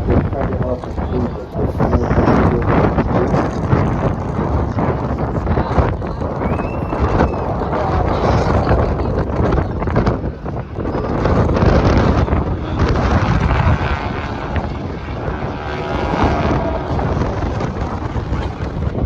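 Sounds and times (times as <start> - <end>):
aircraft engine running: 0.0 - 19.0
wind buffeting microphone: 0.0 - 19.0.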